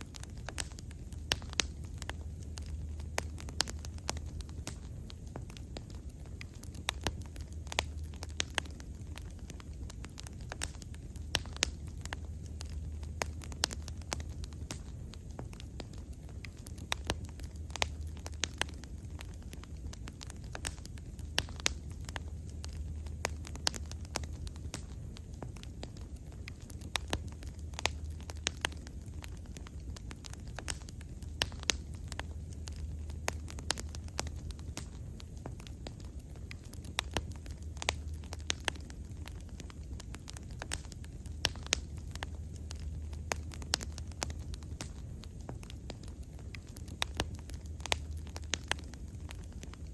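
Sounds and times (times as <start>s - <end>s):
bonfire crackling and popping: 0.0s - 49.9s
low rumble of flames: 0.0s - 49.9s.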